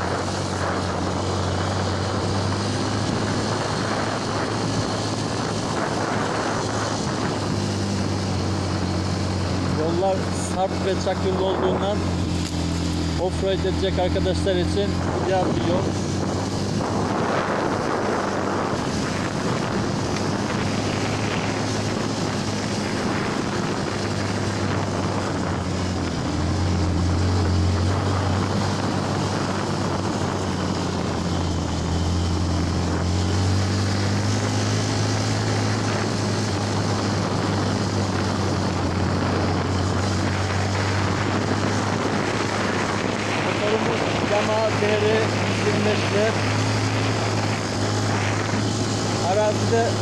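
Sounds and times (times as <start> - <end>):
motorcycle engine running: 0.0 - 50.0
wind noise: 0.0 - 50.0.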